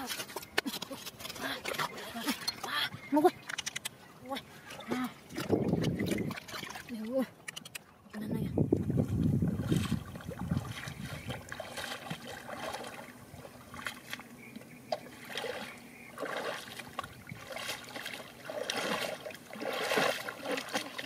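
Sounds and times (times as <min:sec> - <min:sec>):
river water trickling over rocks: 0:03.3 - 0:08.1, 0:08.8 - 0:21.0.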